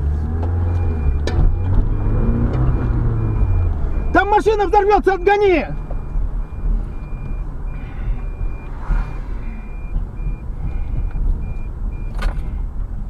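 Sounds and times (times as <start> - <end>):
car driving rumble: 0.0 - 13.0
high electronic beep: 0.7 - 12.2.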